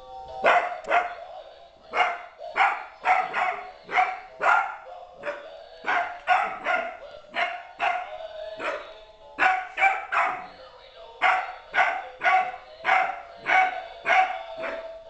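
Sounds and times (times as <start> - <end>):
puppy barking: 0.4 - 1.2, 1.9 - 10.6, 11.2 - 15.0.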